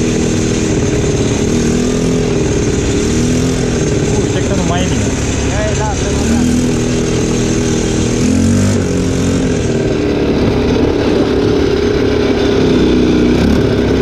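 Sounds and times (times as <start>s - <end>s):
quad engine running: 0.0s - 14.0s.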